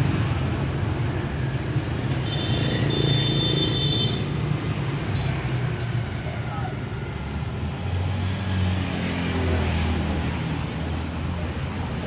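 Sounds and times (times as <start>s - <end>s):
motorbike traffic rumbling: 0.0s - 12.0s.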